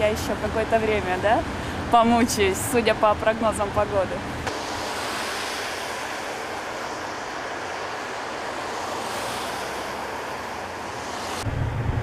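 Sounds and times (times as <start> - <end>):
car passing: 0.0 - 12.0
tyres swishing on wet road: 0.0 - 12.0.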